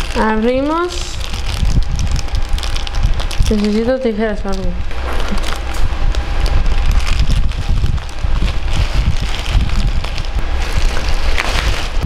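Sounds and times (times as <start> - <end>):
fan wind buffeting microphone: 0.0 - 12.0
plastic bags crinkling: 0.0 - 12.0.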